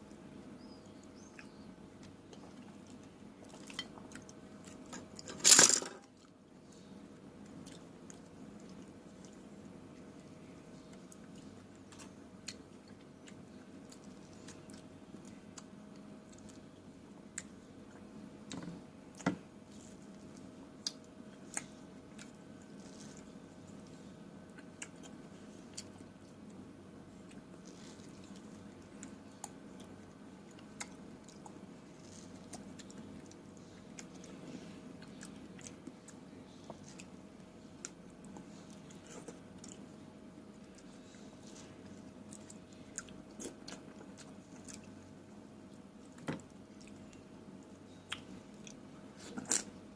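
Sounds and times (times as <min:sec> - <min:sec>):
faint steady hum: 0:00.0 - 0:49.9
person chewing fruit: 0:01.1 - 0:05.2, 0:06.2 - 0:49.8.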